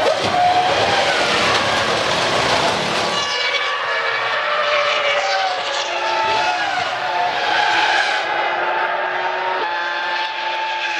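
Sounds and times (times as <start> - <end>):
racing car engines at high revs: 0.0 - 10.9.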